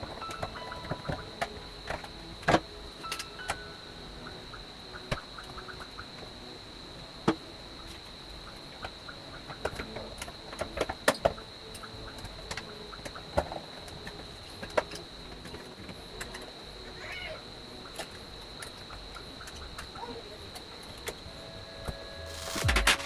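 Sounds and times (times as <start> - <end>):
steady high-pitched whine: 0.0 - 23.0.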